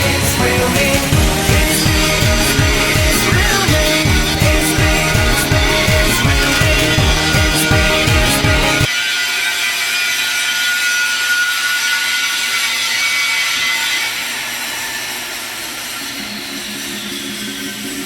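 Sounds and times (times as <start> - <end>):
welding arc hissing: 0.0 - 18.0.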